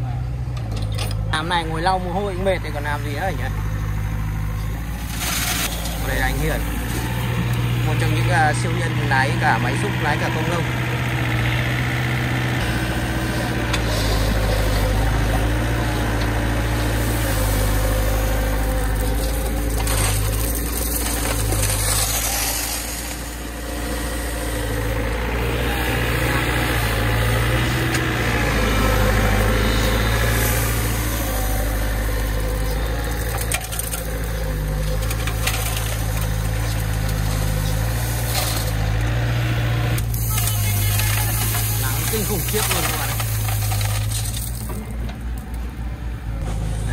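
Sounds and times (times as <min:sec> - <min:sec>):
diesel engine running: 0:00.0 - 0:46.9
gravel crunching: 0:00.0 - 0:46.9.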